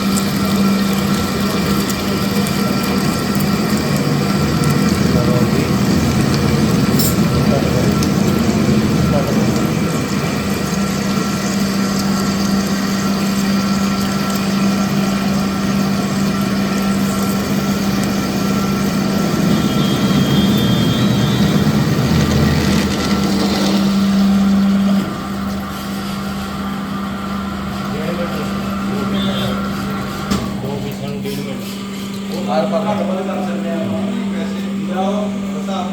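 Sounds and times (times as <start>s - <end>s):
drilling machine humming: 0.0s - 35.9s.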